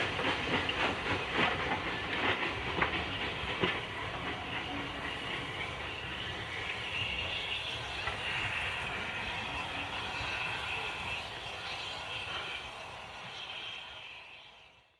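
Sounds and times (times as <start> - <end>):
steam train rumble and hiss: 0.0 - 14.9.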